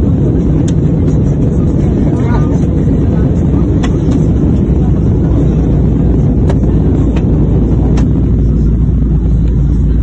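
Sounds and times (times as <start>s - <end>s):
airplane cabin low rumble: 0.0s - 10.0s.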